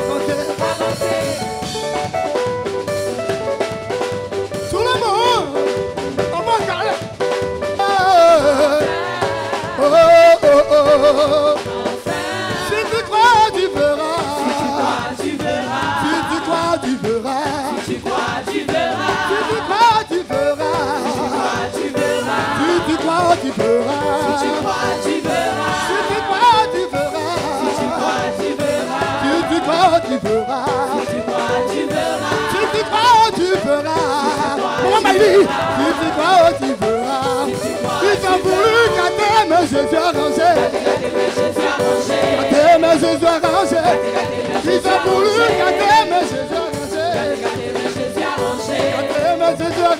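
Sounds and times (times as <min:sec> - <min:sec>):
voices singing gospel worship song: 0:00.0 - 0:49.9.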